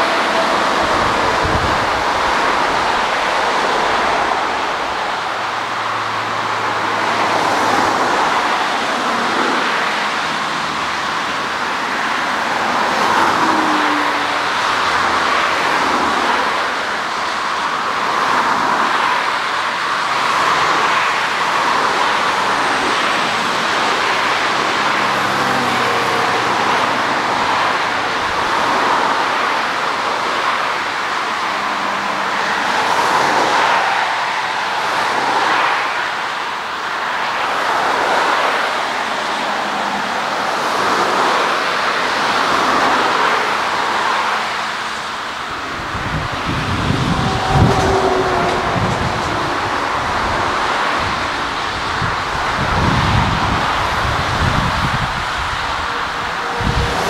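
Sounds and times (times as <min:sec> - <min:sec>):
distant jet engine roar: 0:00.0 - 0:57.0.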